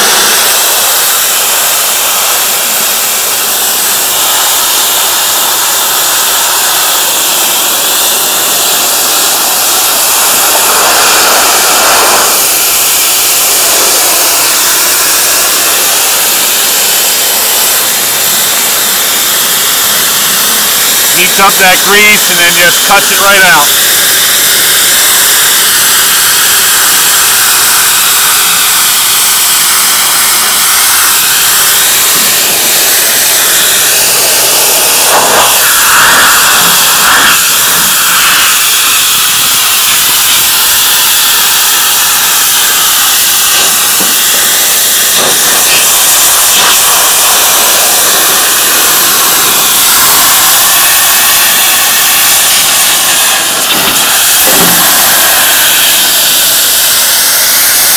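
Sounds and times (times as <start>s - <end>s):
pressure washer jet hissing: 0.0s - 57.9s.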